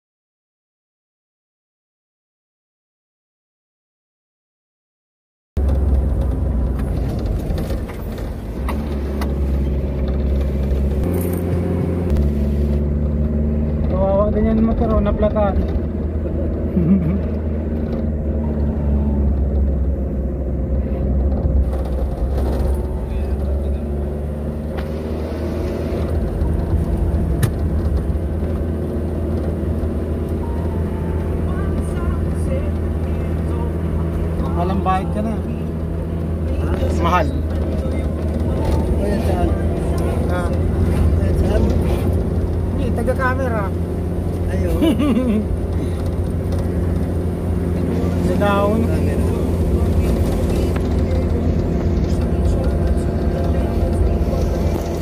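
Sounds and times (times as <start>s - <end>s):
car engine and road hum: 5.6s - 55.0s.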